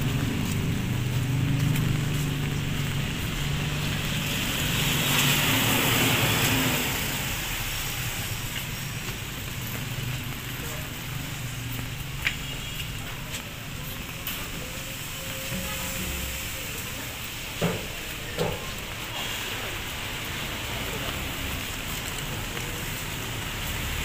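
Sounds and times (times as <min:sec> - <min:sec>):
tyres hissing on wet road: 0:00.0 - 0:24.0
vehicle engine hum: 0:00.0 - 0:24.0.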